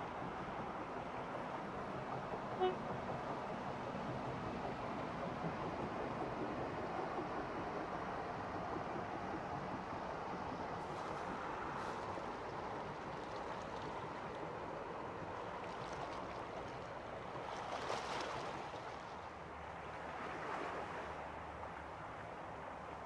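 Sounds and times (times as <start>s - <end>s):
rushing water: 0.0s - 23.0s
wind: 0.0s - 23.0s.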